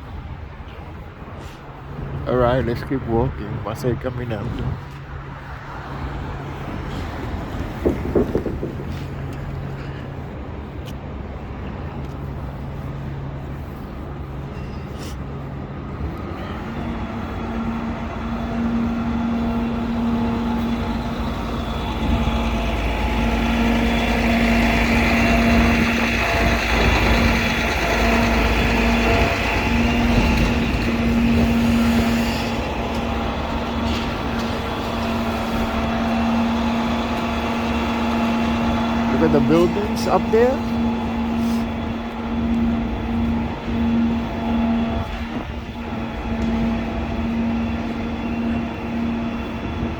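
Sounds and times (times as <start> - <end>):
city street traffic: 0.0 - 49.9
heavy vehicle engine running: 0.0 - 49.9.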